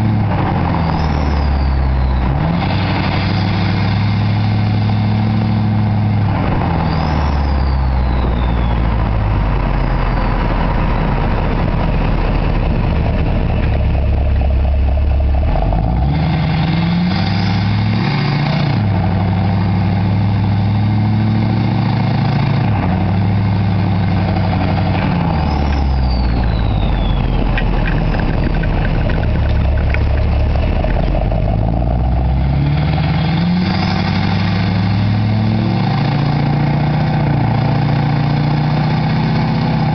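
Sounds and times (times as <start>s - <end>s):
diesel pickup engine revving: 0.0s - 39.9s.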